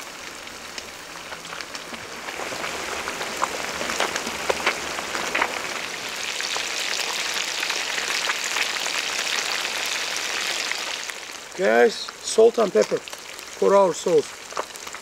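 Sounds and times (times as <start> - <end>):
fish sizzling in hot oil: 0.0 - 15.0
oil popping: 0.0 - 15.0.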